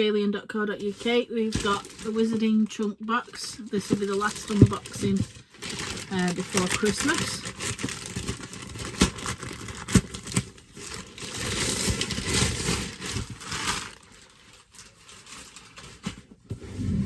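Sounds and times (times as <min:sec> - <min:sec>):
packaging crinkling and tearing: 0:01.5 - 0:16.4.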